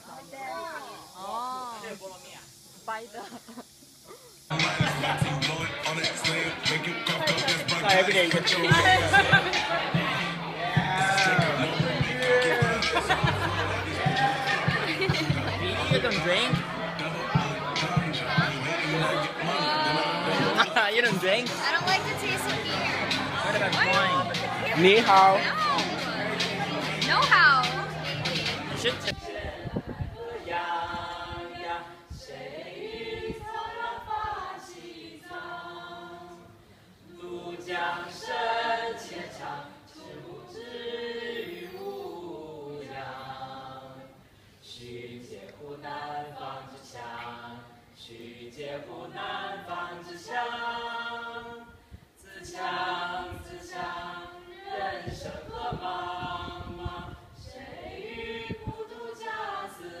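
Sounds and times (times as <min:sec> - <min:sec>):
young people singing together: 0:04.5 - 1:00.0.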